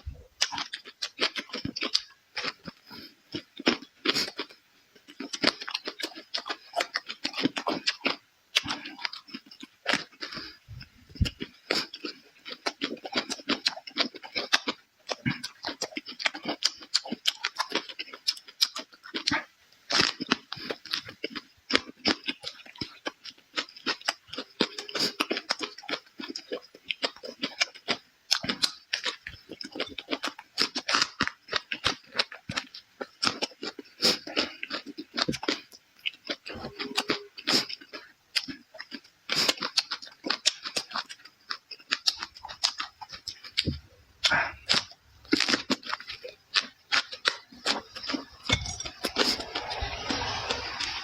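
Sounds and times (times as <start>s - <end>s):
person chewing crunchy food: 0.0s - 51.0s.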